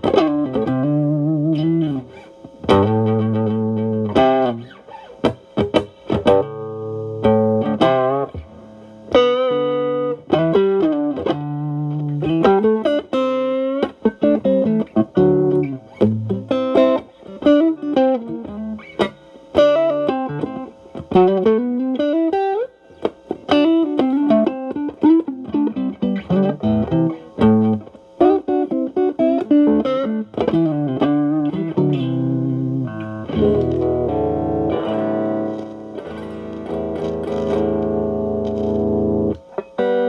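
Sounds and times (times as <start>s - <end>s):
electric guitar chords: 0.0s - 40.0s
overdriven electric guitar lead: 0.0s - 40.0s.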